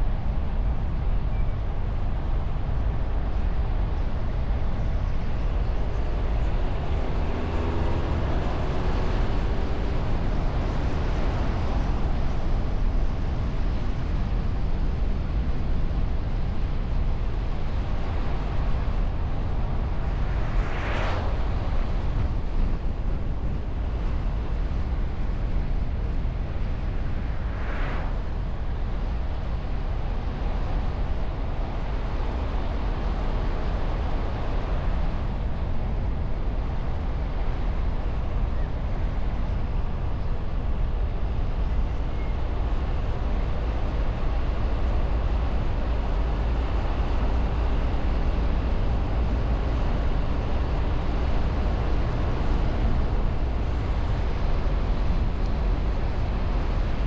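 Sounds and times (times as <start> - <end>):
tyres and engine rumble: 0.0 - 57.0.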